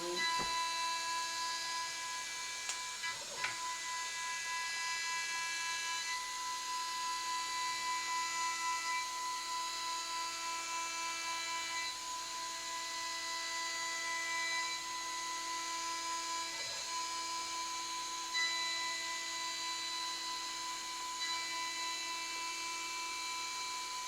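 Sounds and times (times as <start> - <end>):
spindle whining while milling metal: 0.0 - 24.0.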